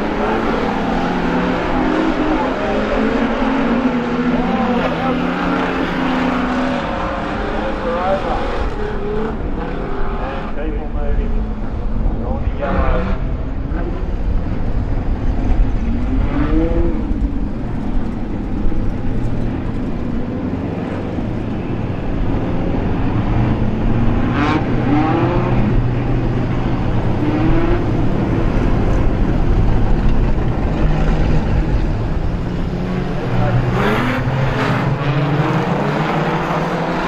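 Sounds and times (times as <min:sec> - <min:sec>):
race car engines accelerating: 0:00.0 - 0:37.0.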